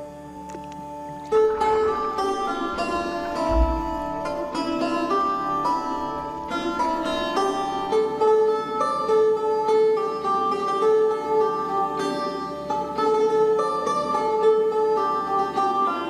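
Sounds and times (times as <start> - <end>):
plucked-string background music: 0.0 - 16.0.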